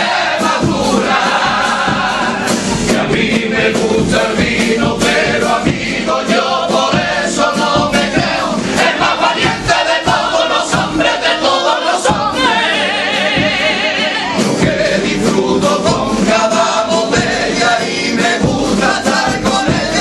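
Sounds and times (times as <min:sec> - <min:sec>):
male chorus singing: 0:00.0 - 0:20.0.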